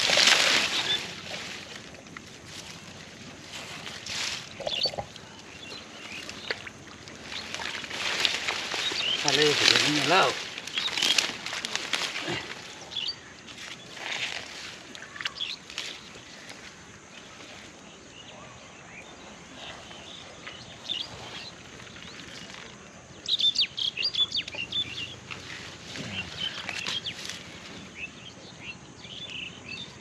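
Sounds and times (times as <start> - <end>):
outdoor background noise: 0.0 - 30.0
small birds chirping: 4.4 - 30.0.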